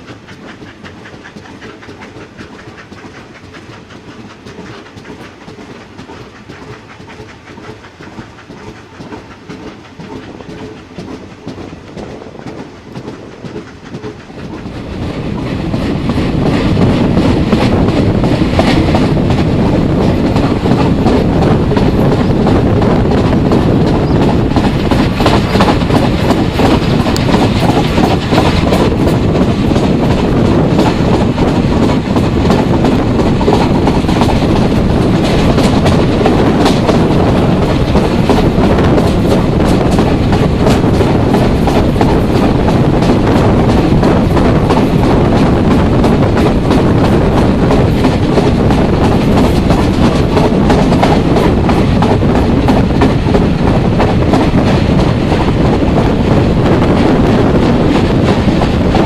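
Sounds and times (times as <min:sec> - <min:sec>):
train wheels rumbling on rails: 0:00.0 - 0:59.0
wheels clicking over rail joints: 0:00.0 - 0:59.0.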